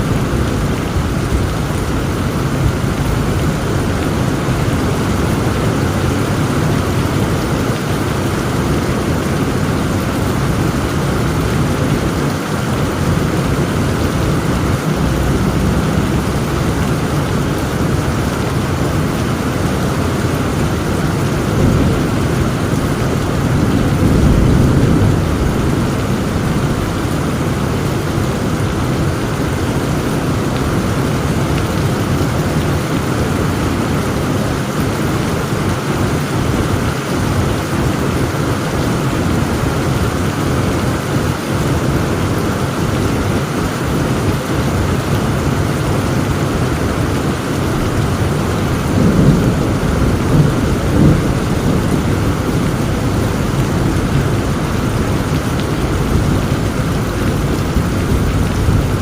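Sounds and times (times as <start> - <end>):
thunder rumble: 0.0 - 38.3, 45.7 - 59.0
heavy rain pouring: 0.0 - 59.0.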